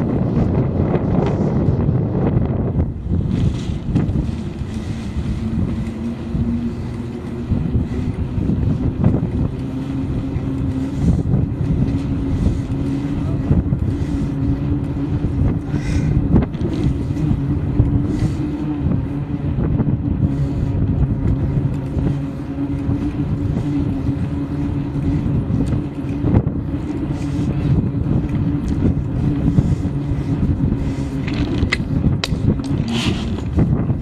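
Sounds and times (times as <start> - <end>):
bike riding rumble: 0.0 - 34.0.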